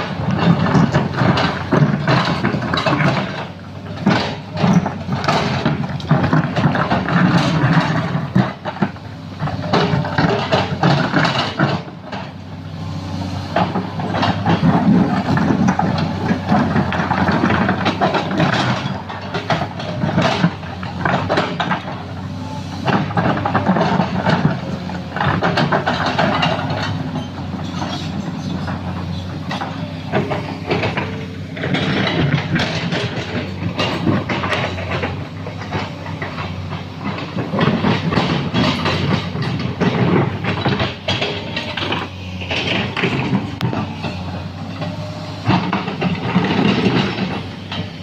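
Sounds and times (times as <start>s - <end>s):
clanks and rattles of metal and rock: 0.0s - 48.0s
heavy machine engine running: 0.0s - 48.0s.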